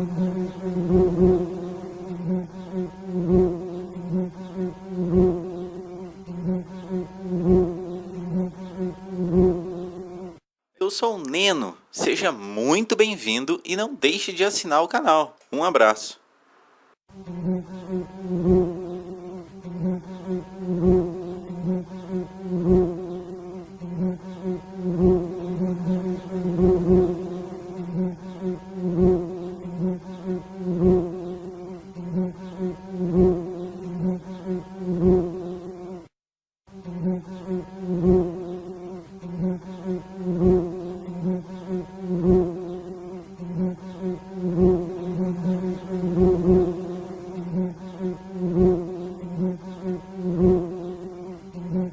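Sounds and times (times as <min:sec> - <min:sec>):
bee buzzing: 0:00.0 - 0:36.1, 0:36.7 - 0:51.9.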